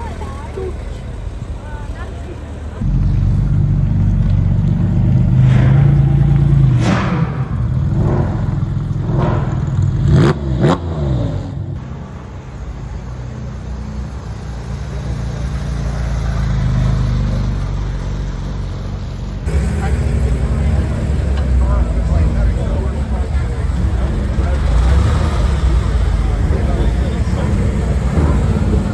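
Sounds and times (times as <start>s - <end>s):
sports car engine revving: 2.8s - 12.9s, 13.5s - 28.9s.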